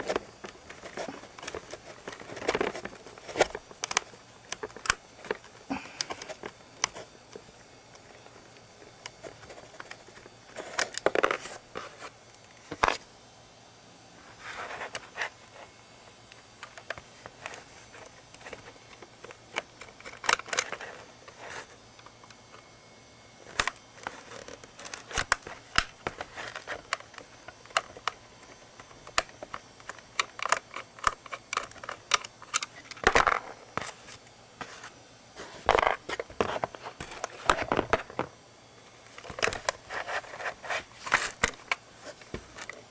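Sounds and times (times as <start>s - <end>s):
plastic parts clicking and knocking: 0.0s - 13.0s, 16.4s - 22.5s, 23.4s - 38.4s, 39.0s - 42.9s.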